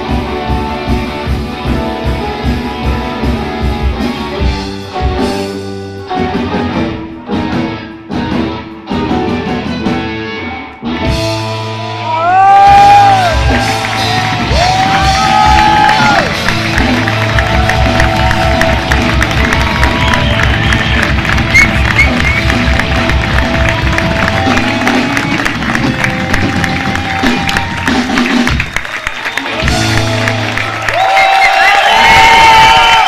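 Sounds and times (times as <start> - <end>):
rock band playing live: 0.0 - 33.0.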